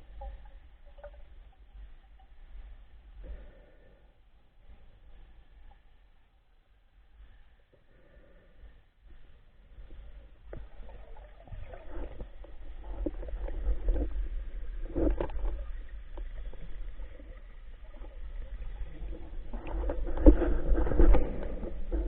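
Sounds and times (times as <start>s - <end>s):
muffled water sloshing and gurgling: 0.0s - 22.0s.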